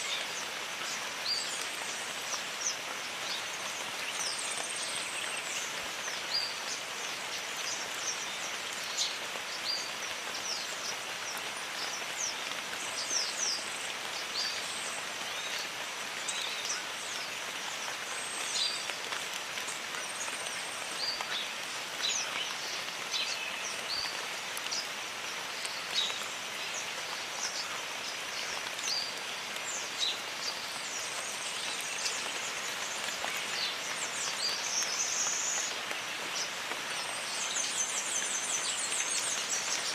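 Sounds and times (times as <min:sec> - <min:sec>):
birds chirping: 0:00.0 - 0:39.9
steady rain falling: 0:00.0 - 0:39.9.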